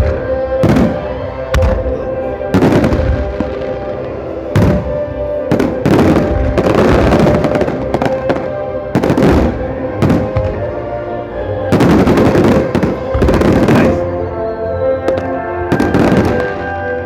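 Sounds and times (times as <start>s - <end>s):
fireworks bursting: 0.0s - 10.8s, 11.7s - 14.1s, 15.0s - 16.9s
music playing: 0.0s - 17.0s.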